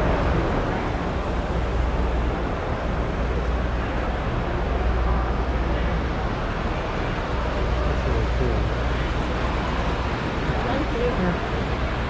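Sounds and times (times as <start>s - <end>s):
busy exhibition hall noise: 0.0s - 12.0s.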